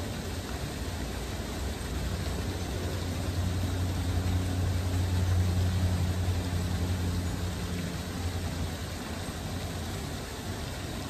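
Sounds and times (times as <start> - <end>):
background hiss: 0.0 - 11.0
low engine hum: 0.0 - 11.0.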